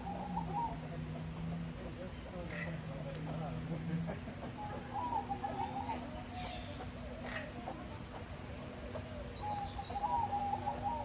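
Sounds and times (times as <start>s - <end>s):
high-pitched insect drone: 0.0s - 11.0s
warbling bird calls: 0.0s - 11.0s.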